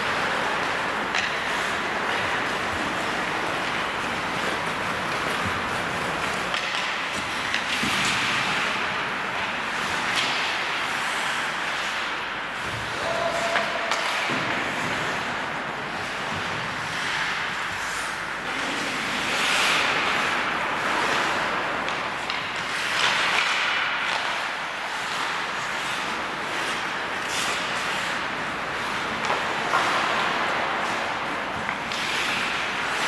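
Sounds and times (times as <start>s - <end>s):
hockey sticks and puck clacking: 0.0s - 33.0s
skates scraping on ice: 0.0s - 33.0s.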